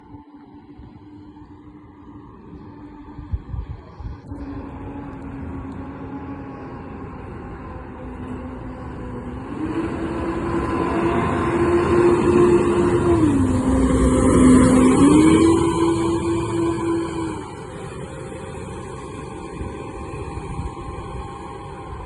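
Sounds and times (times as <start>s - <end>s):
bus drivetrain whine: 0.0s - 22.0s
bus engine accelerating: 0.0s - 22.0s.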